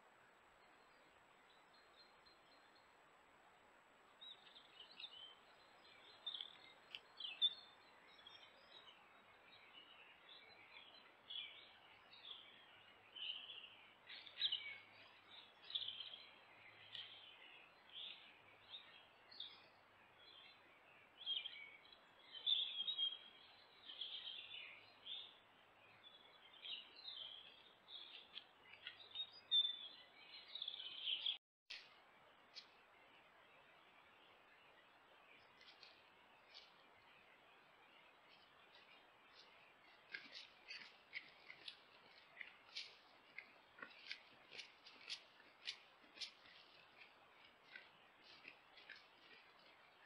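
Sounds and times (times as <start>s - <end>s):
birds chirping and trilling: 4.1s - 31.8s, 32.4s - 50.0s.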